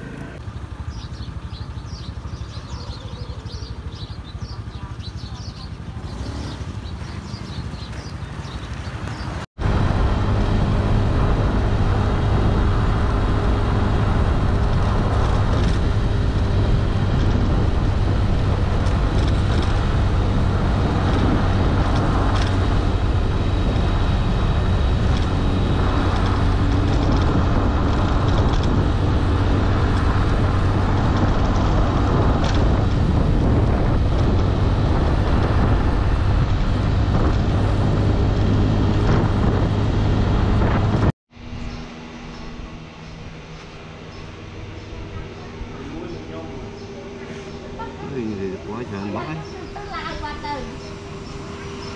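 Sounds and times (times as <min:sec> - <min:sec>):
motorbike engine hum: 0:00.0 - 0:51.9
wind and road noise: 0:00.0 - 0:51.9.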